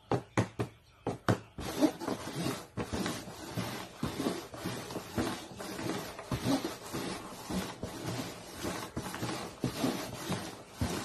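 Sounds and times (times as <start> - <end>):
paper cups sliding and tapping: 1.3 - 11.0.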